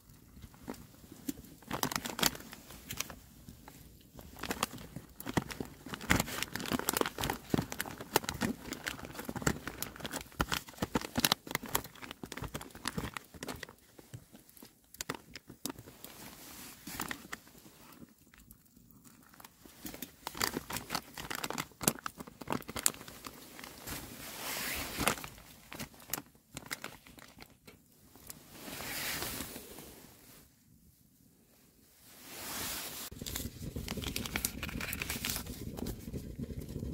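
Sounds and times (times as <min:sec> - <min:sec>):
clicks and crackles: 0:00.0 - 0:24.1, 0:24.7 - 0:28.4, 0:33.1 - 0:36.9
paper pouch crinkling and rustling: 0:00.4 - 0:29.6, 0:32.5 - 0:36.8.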